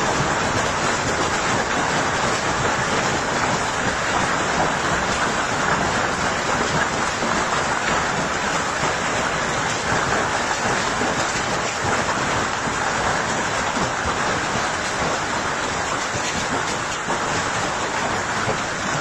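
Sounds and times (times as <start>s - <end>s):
hail and heavy rain pelting: 0.0s - 19.0s.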